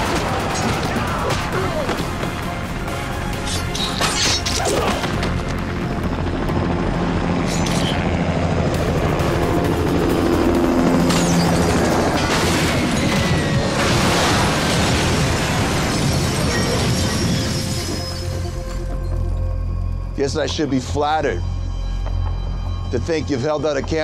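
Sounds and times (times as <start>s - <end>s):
dramatic music score: 0.0s - 24.0s.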